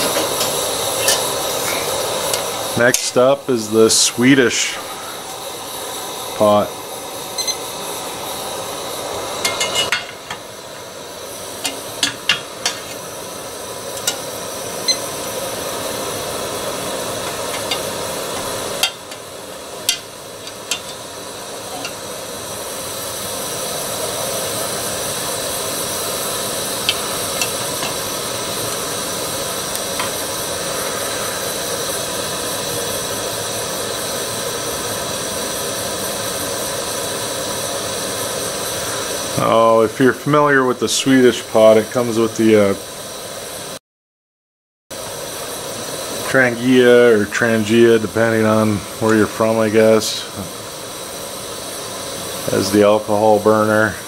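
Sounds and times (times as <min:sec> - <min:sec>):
gas stove burner hissing: 0:00.0 - 0:43.8, 0:45.0 - 0:54.0.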